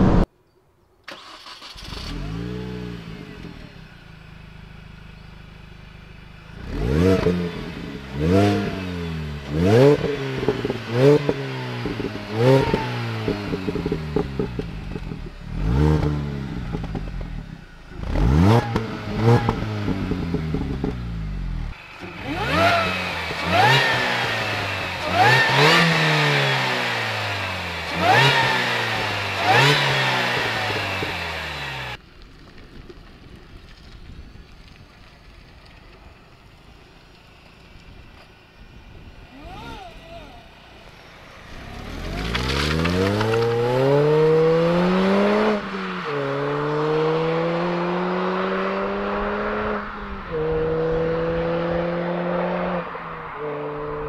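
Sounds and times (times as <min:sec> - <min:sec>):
car engine revving: 0:01.1 - 0:32.0, 0:39.4 - 0:54.0.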